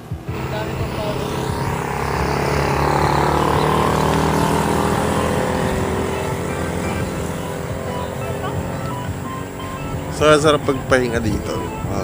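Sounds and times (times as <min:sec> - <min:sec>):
vehicle engine running: 0:00.0 - 0:12.0
wind noise: 0:00.0 - 0:12.0.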